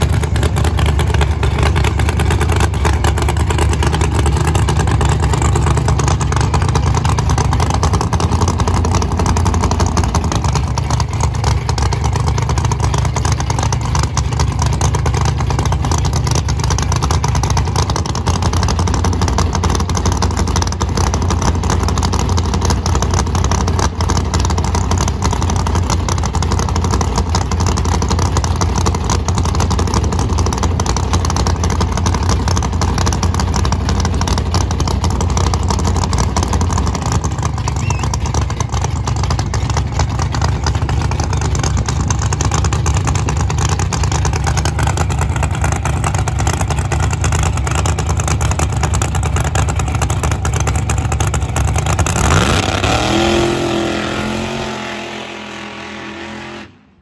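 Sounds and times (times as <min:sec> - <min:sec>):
drag car engine revving: 0:00.0 - 0:57.0.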